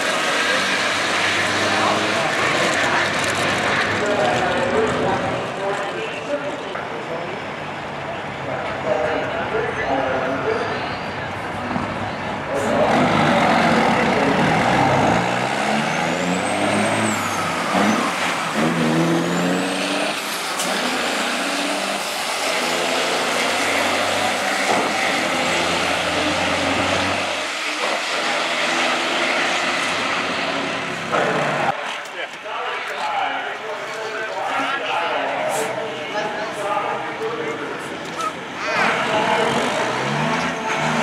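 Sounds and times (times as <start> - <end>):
diesel trucks accelerating: 0.0 - 41.0.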